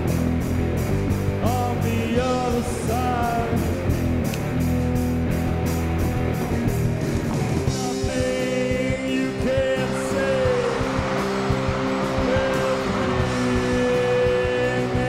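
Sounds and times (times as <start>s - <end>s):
electric guitars: 0.0s - 15.0s
steady drum beat: 0.0s - 15.0s.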